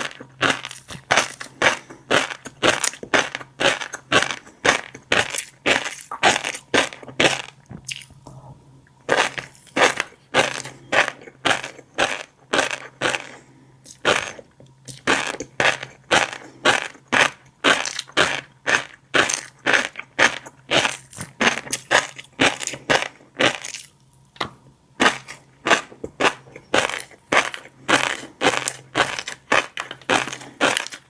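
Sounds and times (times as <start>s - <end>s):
chewing fish roe: 0.0s - 24.2s, 25.0s - 31.0s.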